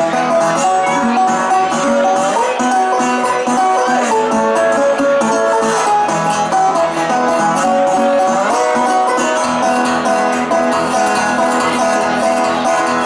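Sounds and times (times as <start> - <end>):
solo guitar playing: 0.0 - 13.0.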